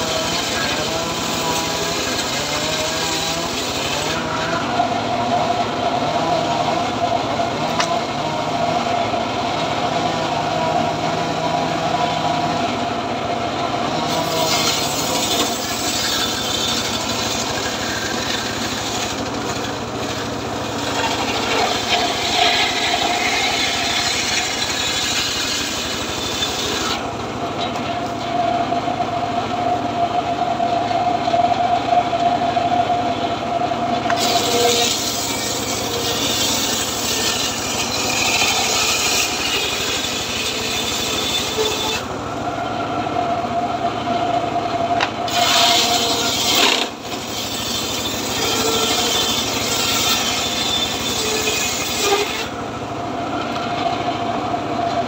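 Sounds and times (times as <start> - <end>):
engine drone: 0.0 - 55.0
saw blade whine cutting wood: 0.0 - 55.0.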